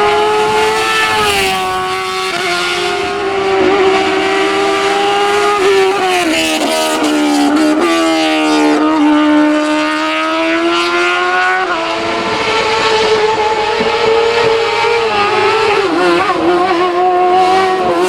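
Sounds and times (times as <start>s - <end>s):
race car engine revving high: 0.0s - 18.0s.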